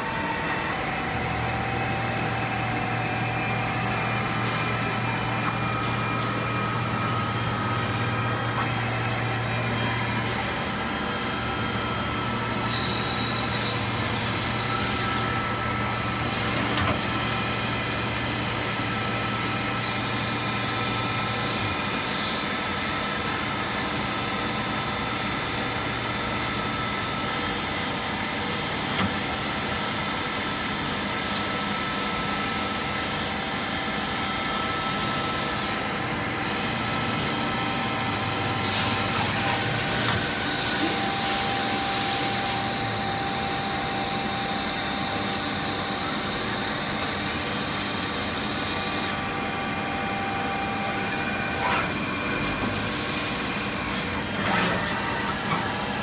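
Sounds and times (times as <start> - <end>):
high steady whines: 0.0 - 56.0
lathe machine hum: 0.0 - 56.0.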